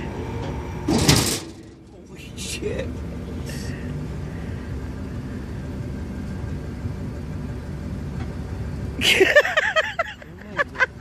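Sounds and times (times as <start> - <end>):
vending machine mechanical rumble: 0.0 - 11.0.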